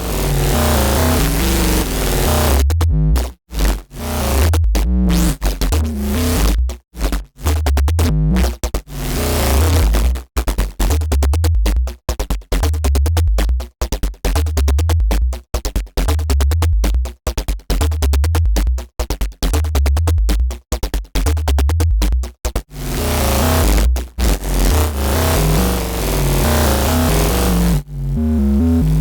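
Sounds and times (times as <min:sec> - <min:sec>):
synth bass riff: 0:00.0 - 0:12.0, 0:12.6 - 0:13.7, 0:14.3 - 0:15.4, 0:16.0 - 0:17.1, 0:17.8 - 0:20.6, 0:21.2 - 0:29.0.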